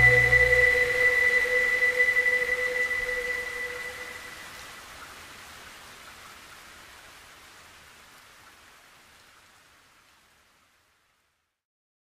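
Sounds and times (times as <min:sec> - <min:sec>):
faint rain-like hiss: 0:00.0 - 0:11.6.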